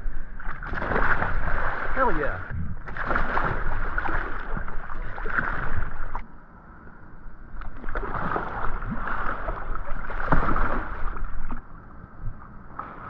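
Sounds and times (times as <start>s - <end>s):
water splashing and sloshing: 0.0s - 6.3s, 7.4s - 13.0s.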